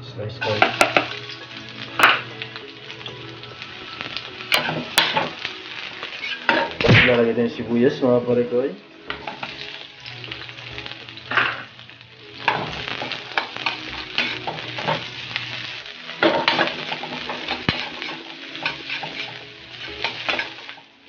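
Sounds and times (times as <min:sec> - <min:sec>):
onion and garlic sizzling: 0:00.0 - 0:21.0
spatula scraping metal wok: 0:00.4 - 0:06.8, 0:09.0 - 0:20.8.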